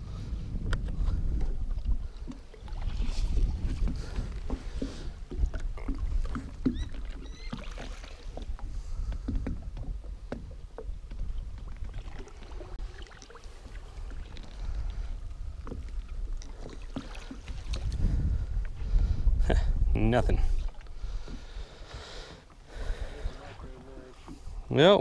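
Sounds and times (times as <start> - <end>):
water lapping against boat hull: 0.0 - 25.0.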